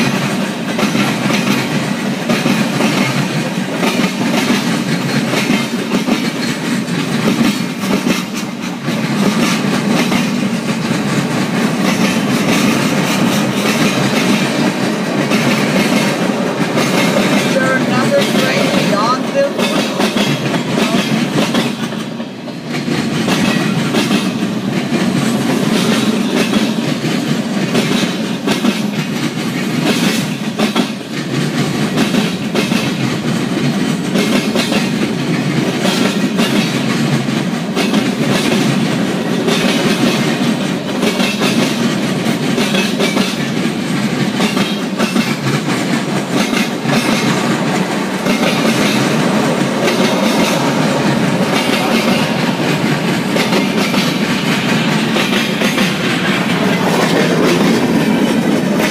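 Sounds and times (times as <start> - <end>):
train rumble: 0.0 - 58.9
train wheels clacking over rail joints: 0.0 - 58.9.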